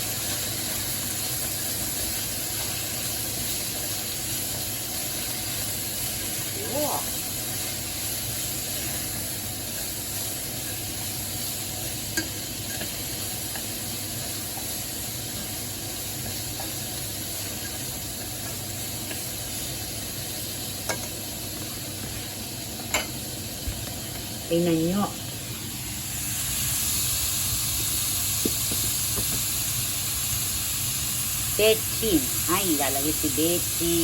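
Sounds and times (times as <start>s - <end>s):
bean sprouts sizzling in frying pan: 0.0s - 34.0s.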